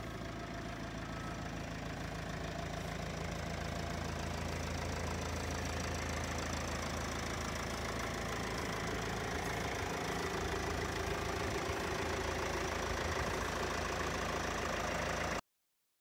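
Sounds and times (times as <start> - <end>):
diesel van engine idling: 0.0 - 15.4.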